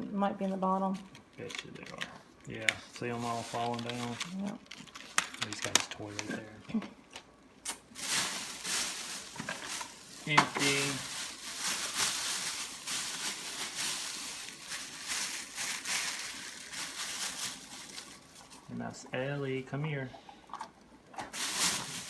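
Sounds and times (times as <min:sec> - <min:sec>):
plastic bags rustling and crinkling: 0:00.8 - 0:06.6, 0:07.7 - 0:19.5, 0:21.2 - 0:22.0.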